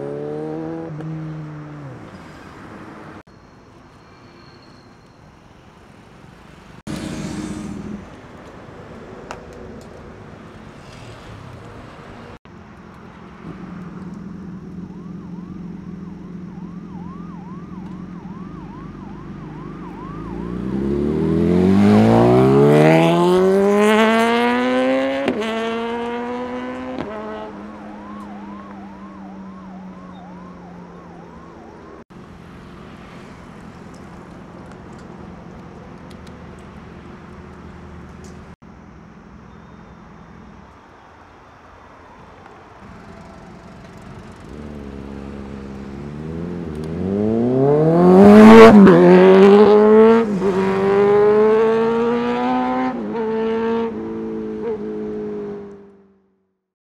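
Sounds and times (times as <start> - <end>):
motorcycle engines revving: 0.0 - 3.3, 5.8 - 40.8, 42.2 - 56.2.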